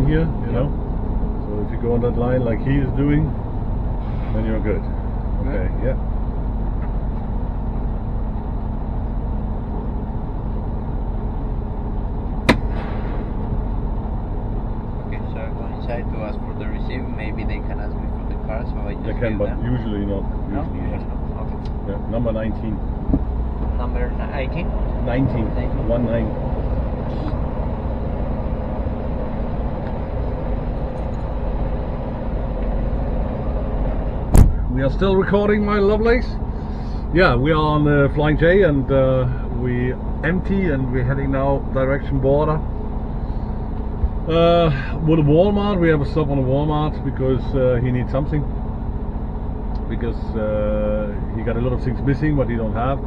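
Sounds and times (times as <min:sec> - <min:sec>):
truck engine rumbling: 0:00.0 - 0:53.0.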